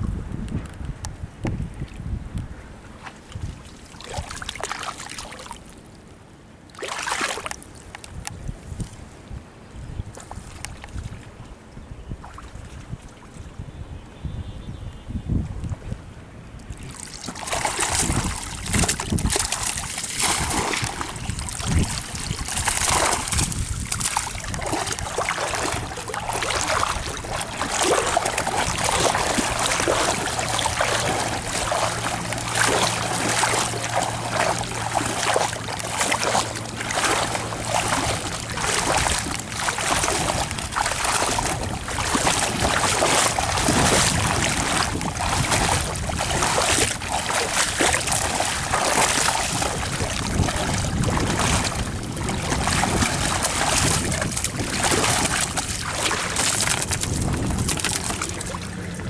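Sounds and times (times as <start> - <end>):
water splashing and sloshing: 2.8 - 9.2, 10.0 - 13.6, 16.6 - 59.0.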